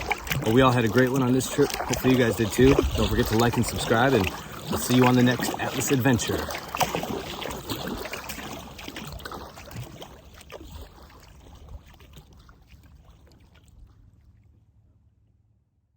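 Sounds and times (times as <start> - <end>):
water splashing around boat: 0.0 - 15.1.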